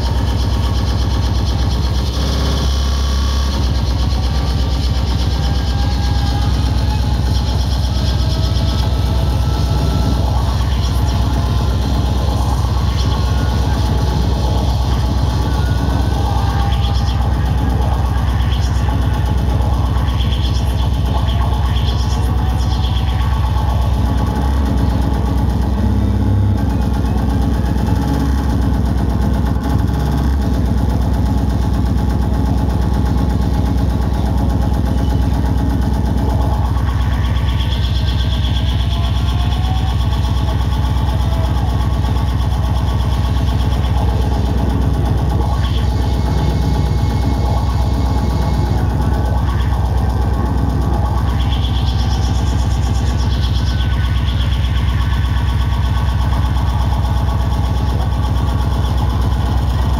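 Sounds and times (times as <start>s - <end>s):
distorted hardcore electronic music: 0.0s - 59.9s.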